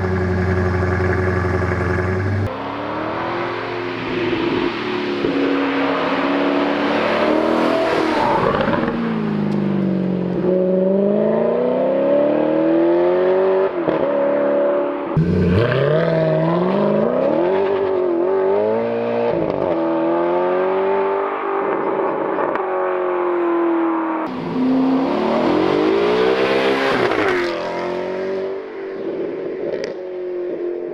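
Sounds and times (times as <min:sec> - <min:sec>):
car engine accelerating: 0:00.0 - 0:22.6, 0:24.3 - 0:30.0.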